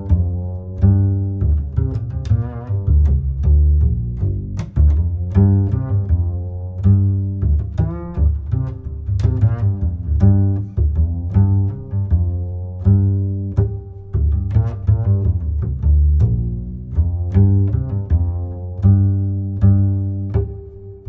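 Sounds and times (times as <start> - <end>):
bass-heavy background music: 0.0 - 21.0.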